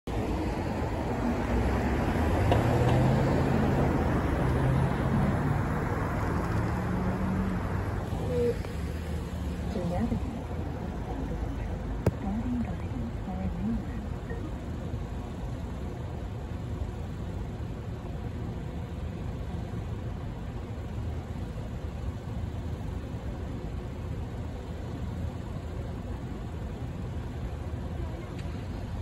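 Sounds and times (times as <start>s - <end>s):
car engine idling: 0.1s - 29.0s.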